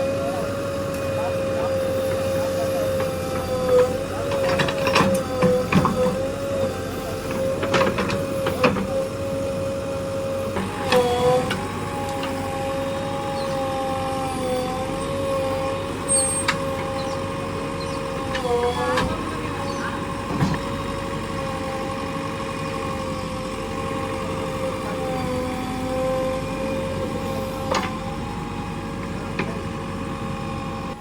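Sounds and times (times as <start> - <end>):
diesel engine and hydraulics whining: 0.0 - 31.0.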